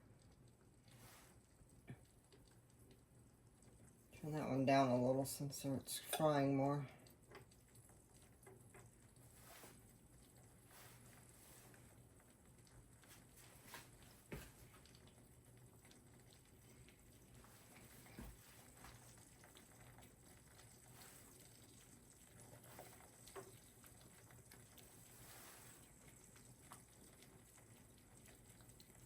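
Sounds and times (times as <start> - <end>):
eggs sizzling in a frying pan: 0.0 - 29.0.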